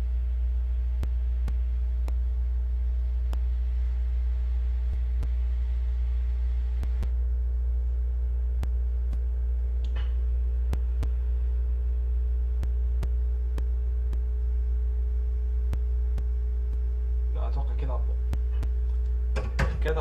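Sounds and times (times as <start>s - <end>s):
faint steady tones: 0.0s - 20.0s
low electrical hum: 0.0s - 20.0s.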